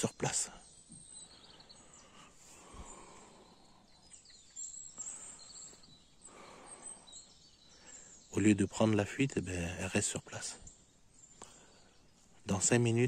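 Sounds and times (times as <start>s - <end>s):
bird chirps: 0.0s - 13.0s
faint outdoor background noise: 0.0s - 13.0s.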